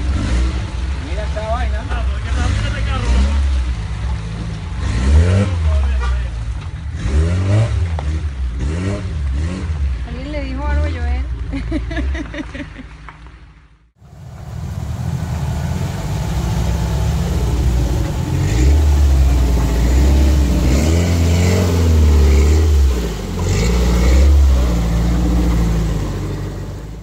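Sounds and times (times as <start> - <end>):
engine revving under load: 0.0 - 1.3, 2.0 - 10.1, 14.0 - 27.0.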